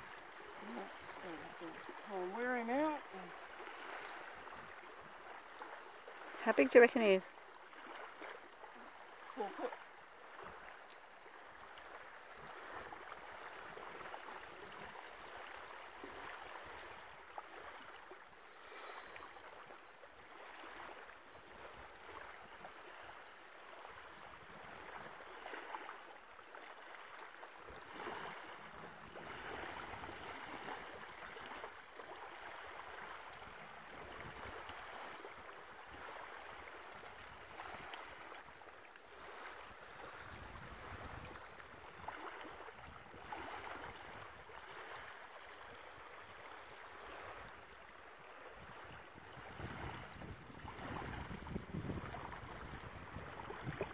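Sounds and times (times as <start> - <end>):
small waves lapping on sand: 0.0 - 53.9.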